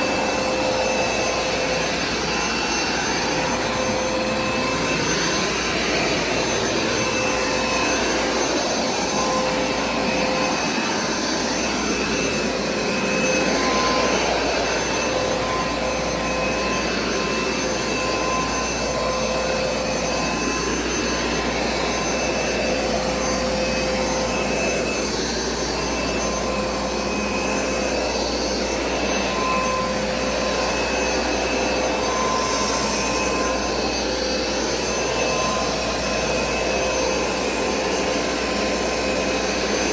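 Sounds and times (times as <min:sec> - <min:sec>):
carpet cleaner suction motor: 0:00.0 - 0:39.9.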